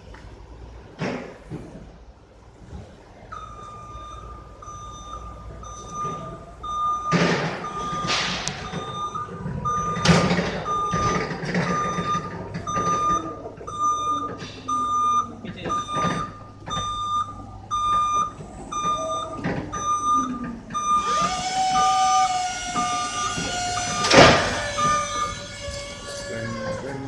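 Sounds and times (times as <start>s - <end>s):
low hum of truck drive: 0.0s - 27.0s
reach truck alarm beeping: 3.3s - 26.4s.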